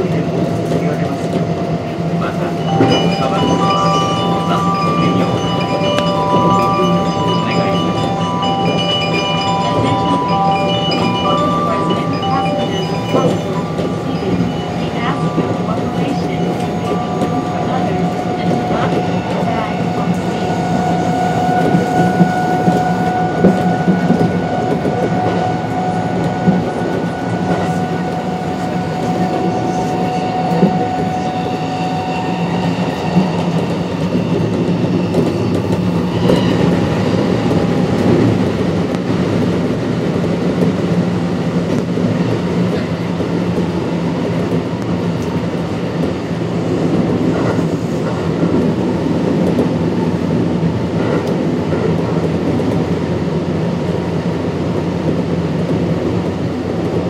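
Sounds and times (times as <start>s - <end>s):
train wheel and track noise: 0.0s - 57.0s.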